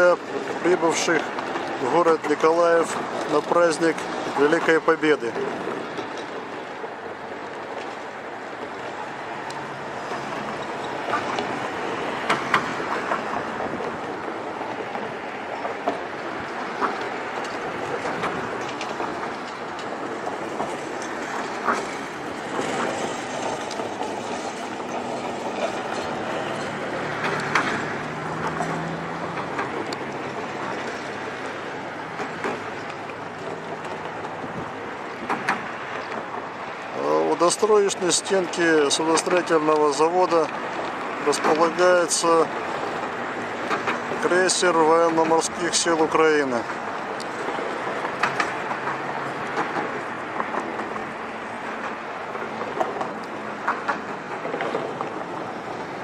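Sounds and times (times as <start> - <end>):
rushing outdoor background noise: 0.0 - 56.0.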